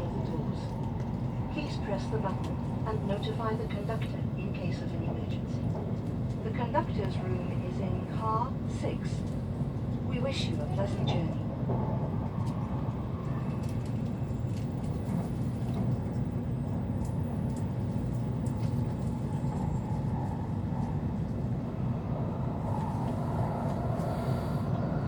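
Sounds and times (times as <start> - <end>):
train wheels and motors rumbling: 0.0 - 25.0.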